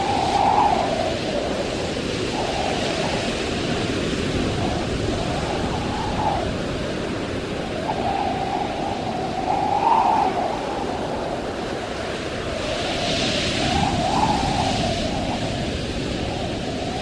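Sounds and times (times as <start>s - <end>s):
rushing sea water: 0.0s - 17.0s
wind: 0.0s - 17.0s.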